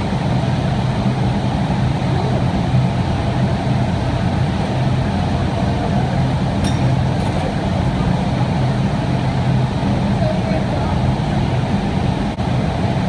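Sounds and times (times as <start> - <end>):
furnaces and blowers roaring: 0.0 - 13.0.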